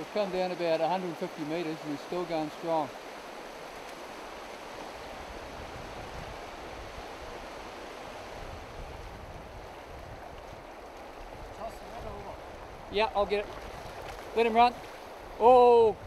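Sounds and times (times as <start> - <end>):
river rushing over gravel: 0.0 - 15.9.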